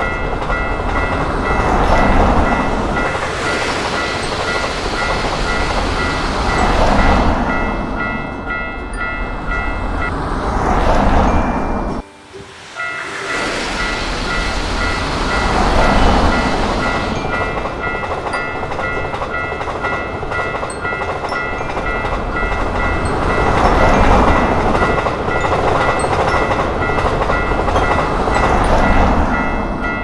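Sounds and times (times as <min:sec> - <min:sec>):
level-crossing alarm ringing: 0:00.0 - 0:30.0
train rumble and rail clatter: 0:00.0 - 0:30.0.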